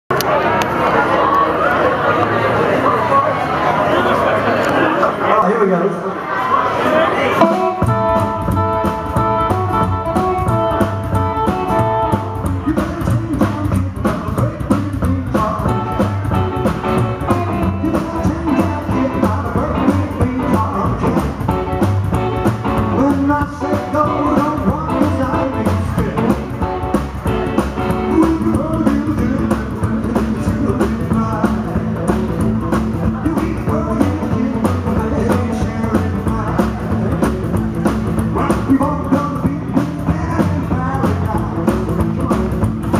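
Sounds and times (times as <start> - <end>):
acoustic guitar: 7.3 - 42.9
electric guitar: 7.3 - 42.9
drum kit: 7.4 - 42.9
upright double bass: 7.4 - 42.9.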